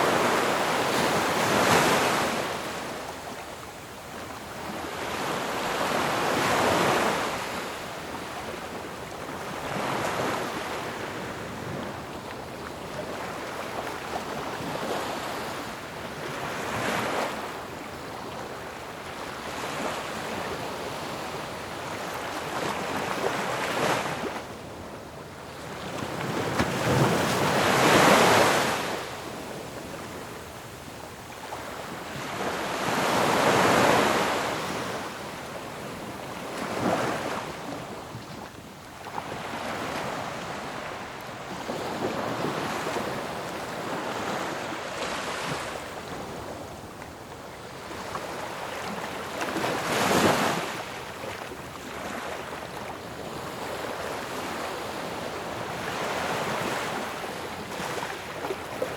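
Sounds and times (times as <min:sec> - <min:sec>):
ocean waves breaking on shore: 0:00.0 - 0:58.9.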